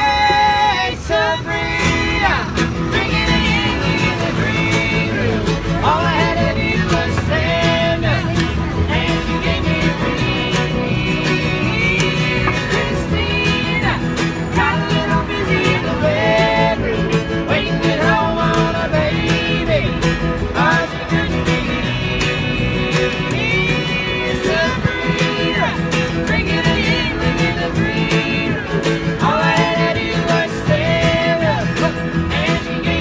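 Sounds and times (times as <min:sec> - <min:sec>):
woman singing: 0:00.0 - 0:16.8, 0:17.4 - 0:33.0
plucked double bass: 0:00.0 - 0:33.0
strummed acoustic guitar: 0:00.0 - 0:33.0.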